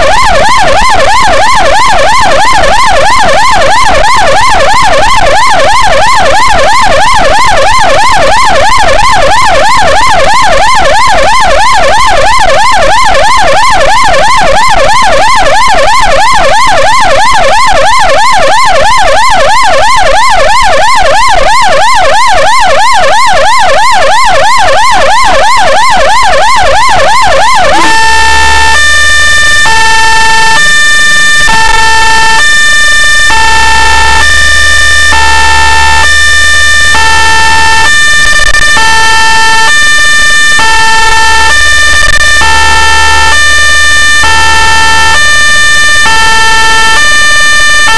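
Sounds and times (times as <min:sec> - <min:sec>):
ambulance siren yelping: 0:00.0 - 0:47.9.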